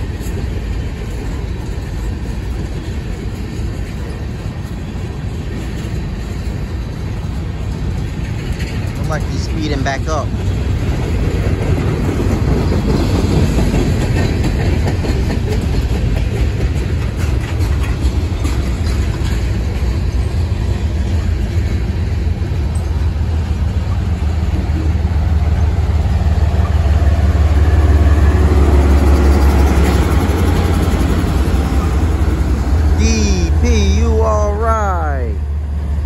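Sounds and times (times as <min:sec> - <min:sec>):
train wheels clattering on rails: 0:00.0 - 0:33.0
diesel locomotive engine hum: 0:00.0 - 0:36.0.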